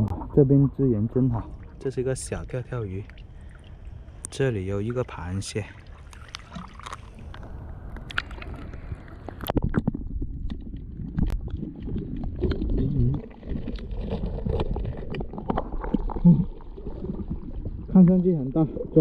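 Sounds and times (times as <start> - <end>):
shallow water sloshing: 1.2 - 19.0.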